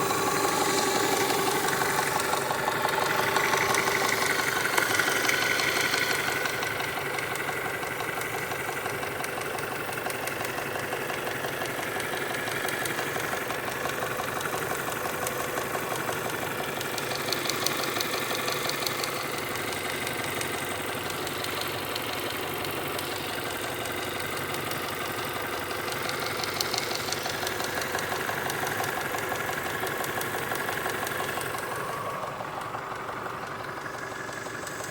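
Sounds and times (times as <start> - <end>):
car engine running: 0.0 - 34.9
fast even engine ticking: 0.0 - 34.9.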